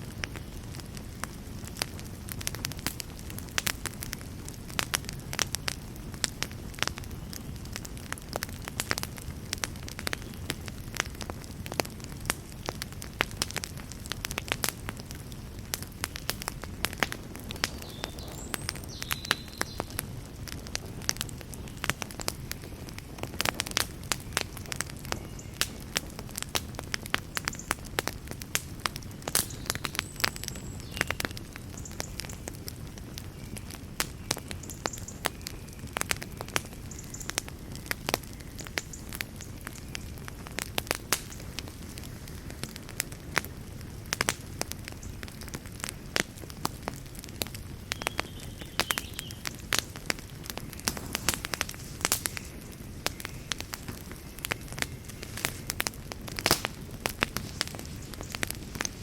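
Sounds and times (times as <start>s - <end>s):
low rumble of flame: 0.0s - 59.0s
wood fire popping and crackling: 0.0s - 59.0s.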